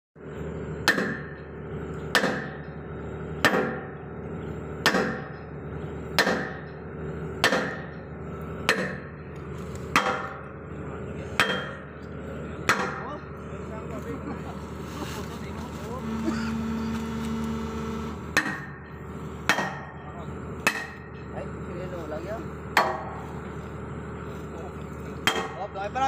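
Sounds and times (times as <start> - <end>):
steady machine hum: 0.2 - 26.0.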